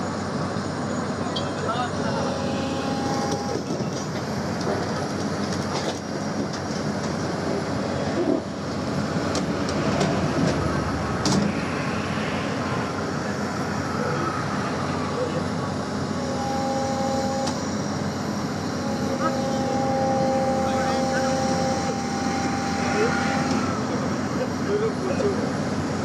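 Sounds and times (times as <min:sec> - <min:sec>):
heavy machinery rumbling: 0:00.0 - 0:26.0.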